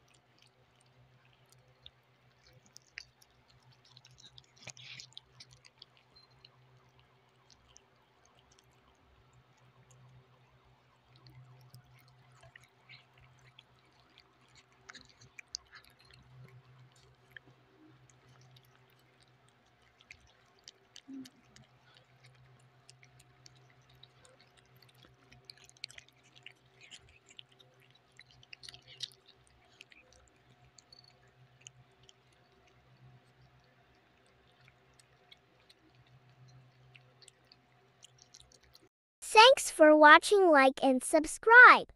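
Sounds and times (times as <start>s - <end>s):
cats chewing food: 0.0s - 38.9s.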